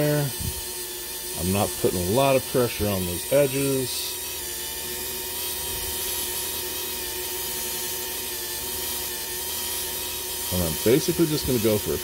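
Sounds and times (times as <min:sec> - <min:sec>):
rotary tool motor whine: 0:00.0 - 0:12.0.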